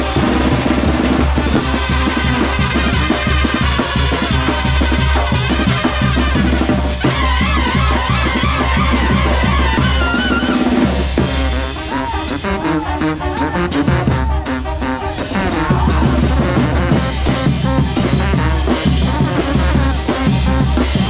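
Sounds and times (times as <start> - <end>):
bass drum and snare beat: 0.0 - 21.0
brass band playing: 0.0 - 21.0.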